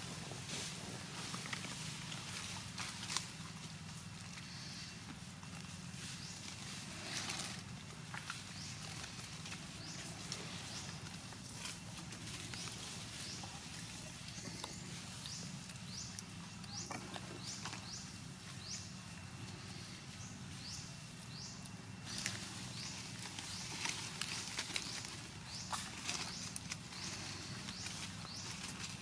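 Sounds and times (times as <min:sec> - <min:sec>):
light ticks and rustles: 0:00.3 - 0:29.0.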